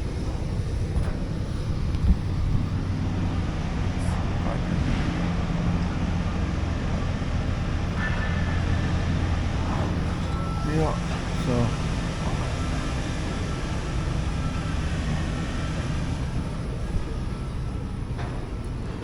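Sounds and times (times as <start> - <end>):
diesel truck engine running: 0.0 - 8.0, 8.6 - 19.0.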